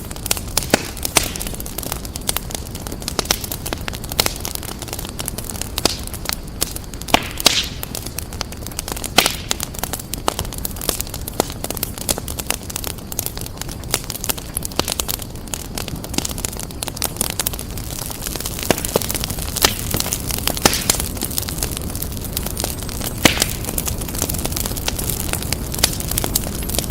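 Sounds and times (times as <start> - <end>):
flames rushing: 0.0 - 26.9
wood fire crackling: 0.0 - 26.9.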